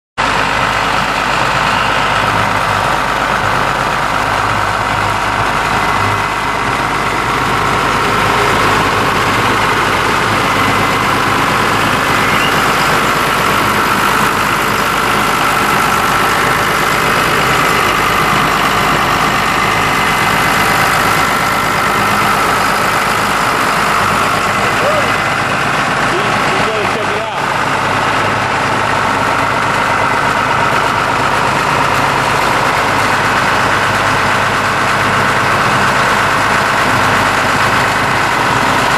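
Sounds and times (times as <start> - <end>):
pump engines running: 0.2 - 38.9.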